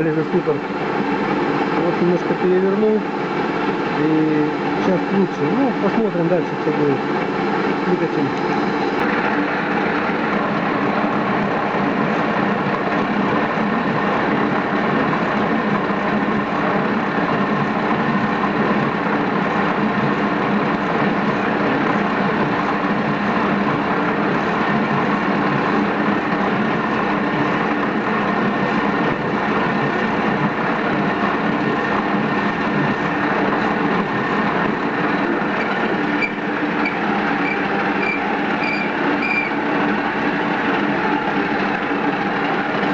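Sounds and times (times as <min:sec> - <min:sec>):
metal lathe humming: 0:00.0 - 0:42.9.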